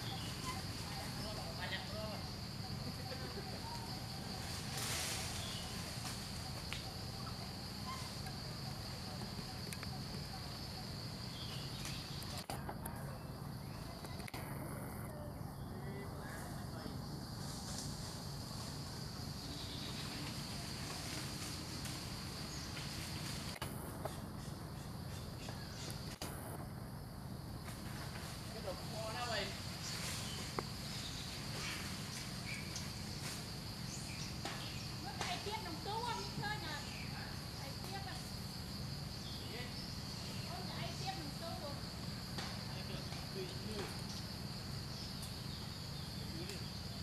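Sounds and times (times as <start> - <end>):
insects buzzing: 0.0 - 47.0
low background hum: 0.0 - 47.0.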